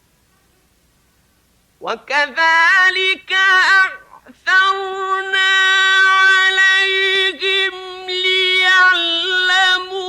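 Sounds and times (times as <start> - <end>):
man chanting melodically: 1.8 - 10.0.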